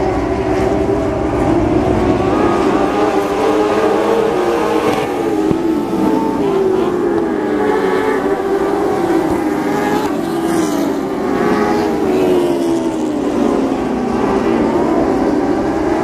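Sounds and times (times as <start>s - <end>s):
race car engines racing: 0.0s - 16.0s.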